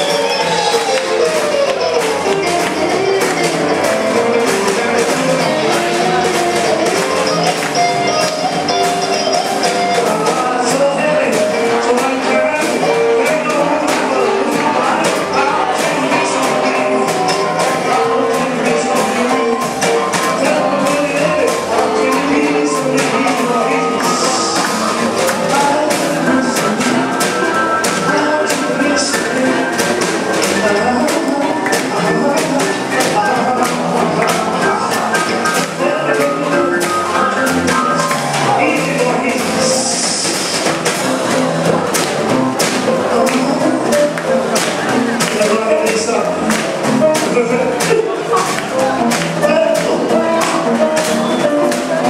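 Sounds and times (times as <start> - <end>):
man singing: 0.0 - 41.5, 42.6 - 52.0
drums: 0.0 - 52.0
electric guitar: 0.0 - 52.0
rhythm and blues band playing: 0.0 - 52.0
upright bass: 0.0 - 52.0.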